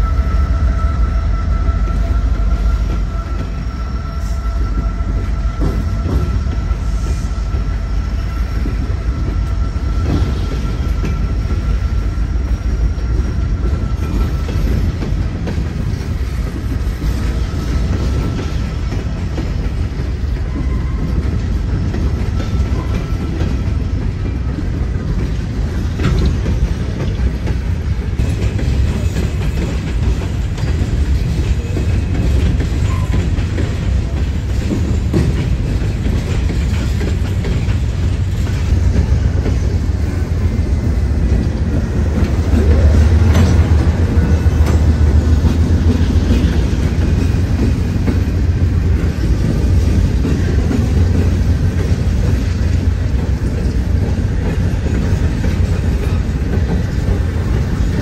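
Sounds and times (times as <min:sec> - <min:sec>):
high squeal from train wheels: 0:00.0 - 0:58.0
train wheels rumbling on rail: 0:00.0 - 0:58.0.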